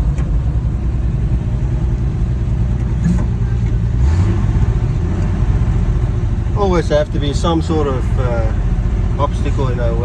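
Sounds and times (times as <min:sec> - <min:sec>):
pickup truck engine running: 0:00.0 - 0:10.0.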